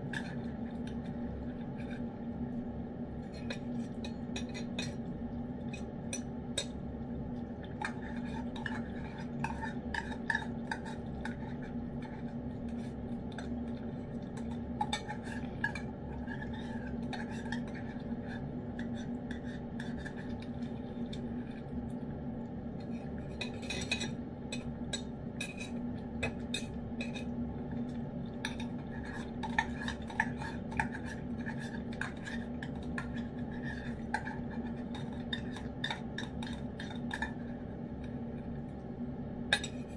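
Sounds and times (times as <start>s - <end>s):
cat chewing and lapping food: 0.0s - 39.9s
steady low hum: 0.0s - 39.9s.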